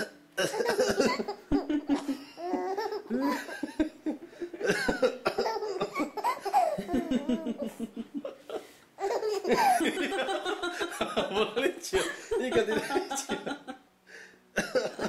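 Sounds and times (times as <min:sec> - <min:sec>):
baby laughing: 0:00.0 - 0:13.4.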